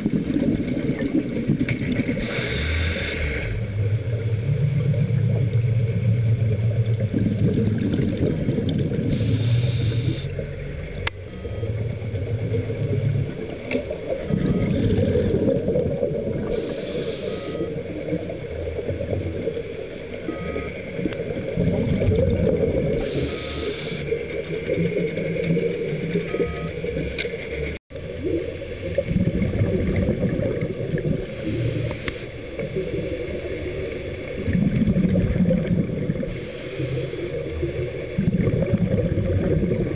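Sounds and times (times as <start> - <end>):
regulator bubbles hissing: 0.0 - 27.1, 28.0 - 39.9
underwater low rumble: 0.0 - 39.9.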